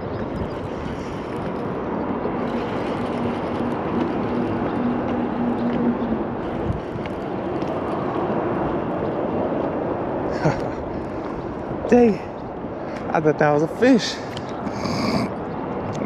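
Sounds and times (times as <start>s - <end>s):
wind and water noise: 0.0s - 16.0s.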